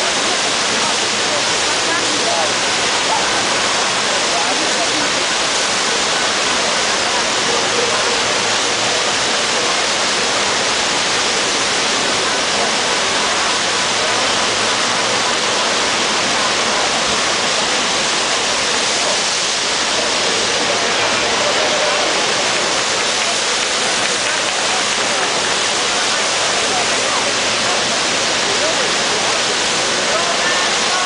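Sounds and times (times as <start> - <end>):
rushing water over slope: 0.0 - 31.0.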